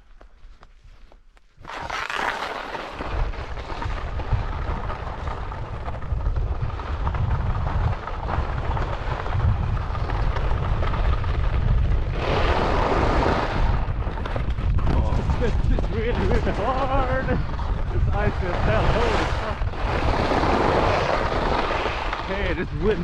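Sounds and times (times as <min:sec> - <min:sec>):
sliding on icy snow: 0:00.4 - 0:23.0
wind buffeting microphone: 0:03.0 - 0:23.0.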